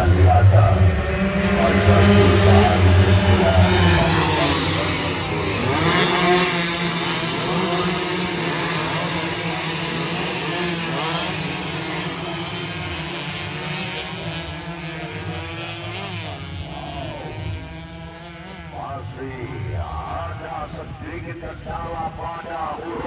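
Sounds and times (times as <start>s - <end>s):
motorcycles revving: 0.0s - 20.9s.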